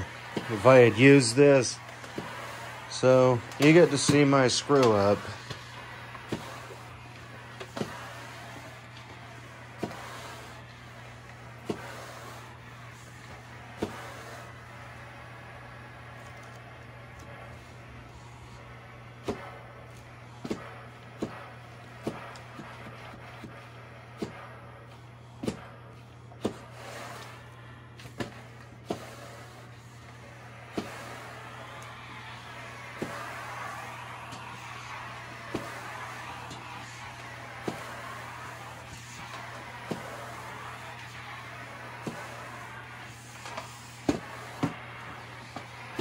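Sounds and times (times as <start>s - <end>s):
steam mop humming and hissing: 0.0s - 46.0s.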